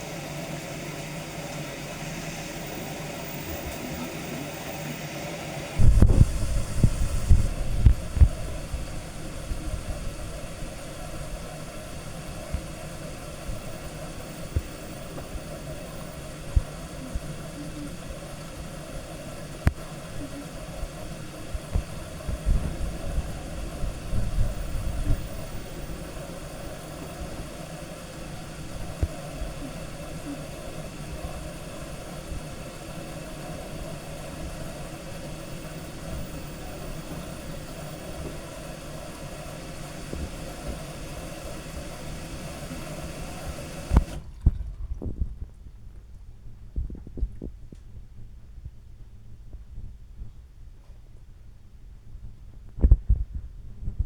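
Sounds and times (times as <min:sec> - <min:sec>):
washing machine humming: 0:00.0 - 0:48.8.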